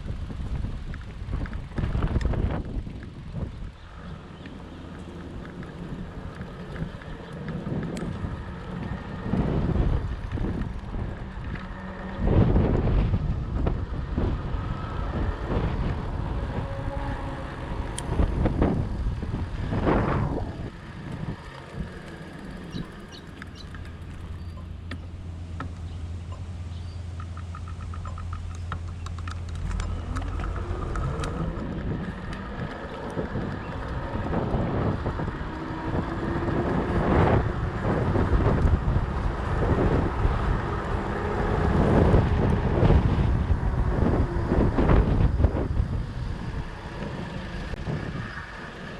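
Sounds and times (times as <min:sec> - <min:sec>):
bike tyre rumble: 0:00.0 - 0:48.9
wind buffeting microphone: 0:00.0 - 0:48.9.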